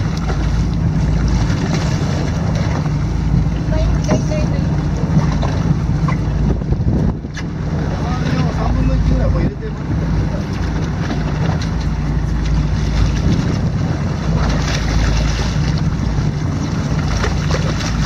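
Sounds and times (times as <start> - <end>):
boat engine idling: 0.0 - 18.0
water splashing: 0.0 - 18.0
wind buffeting microphone: 0.0 - 18.0.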